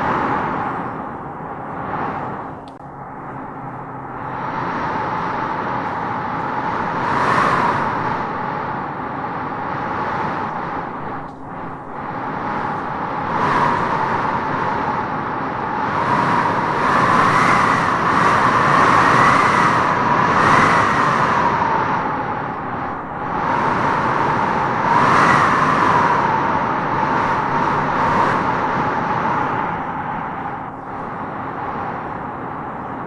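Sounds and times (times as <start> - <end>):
wavering wind whistle: 0.0 - 33.0
wind blowing in gusts: 0.0 - 33.0.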